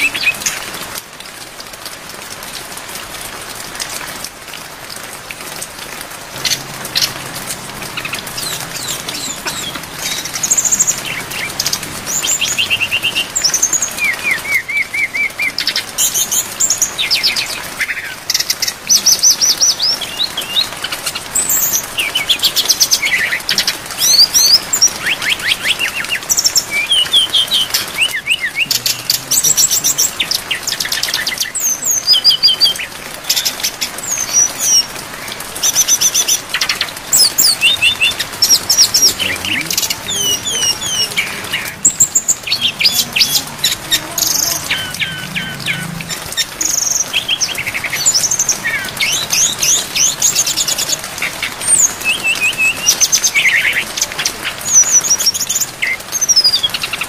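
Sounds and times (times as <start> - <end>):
rain hiss: 0.0 - 57.0
bird singing trills and whistles: 8.0 - 34.9, 35.6 - 51.0, 51.6 - 57.0.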